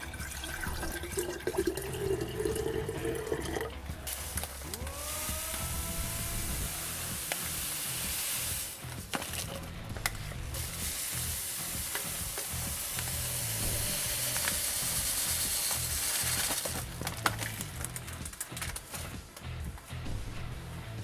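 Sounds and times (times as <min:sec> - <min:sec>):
steady sizzling hiss: 0:00.0 - 0:21.0.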